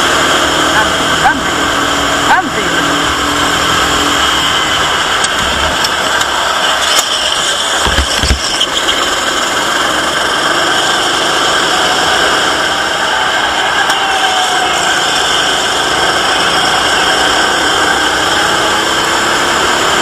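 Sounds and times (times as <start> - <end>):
kart engine at speed: 0.0 - 20.0.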